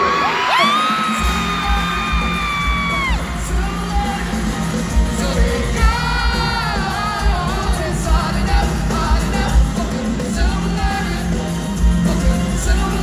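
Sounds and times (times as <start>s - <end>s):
pop-rock band playing: 0.0s - 13.0s.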